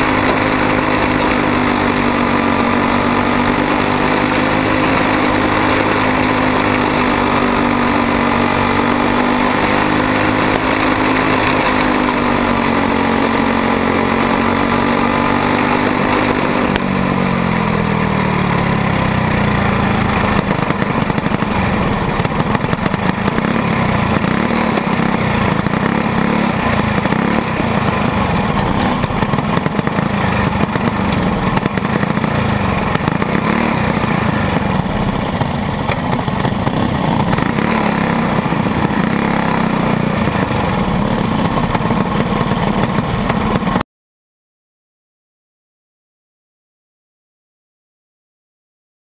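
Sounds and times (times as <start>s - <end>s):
race car engine running: 0.0s - 43.8s.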